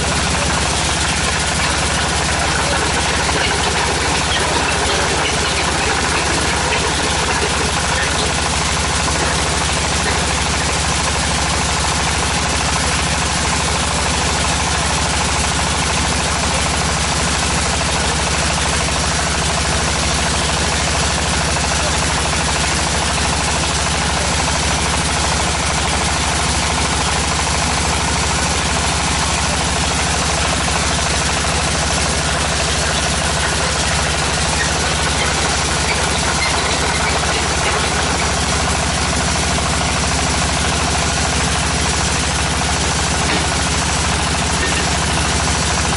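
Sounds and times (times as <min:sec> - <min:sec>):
drilling rig droning with pulsing: 0:00.0 - 0:45.9.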